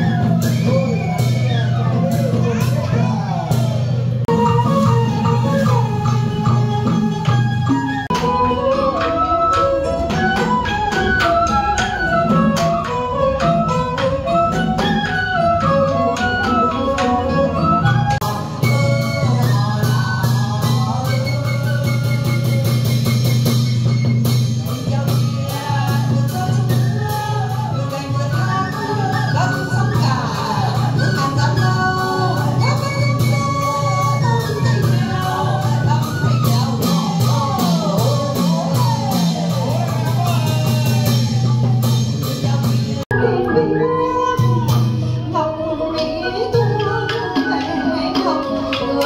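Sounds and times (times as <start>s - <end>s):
traditional music with percussion: 0.0s - 49.0s.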